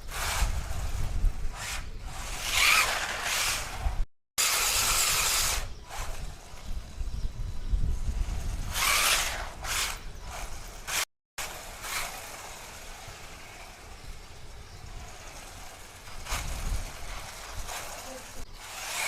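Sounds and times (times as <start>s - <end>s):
rc car drivetrain running: 0.0s - 6.9s, 8.0s - 19.0s
wind rumbling on microphone: 0.0s - 11.0s, 11.7s - 19.0s.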